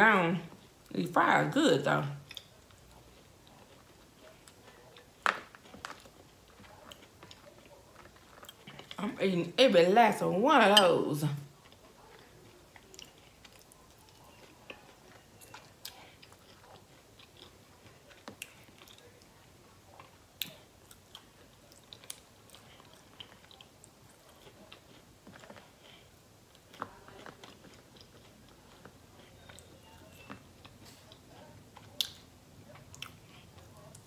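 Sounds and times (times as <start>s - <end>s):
chewing fried food: 2.1s - 9.2s, 11.4s - 34.0s.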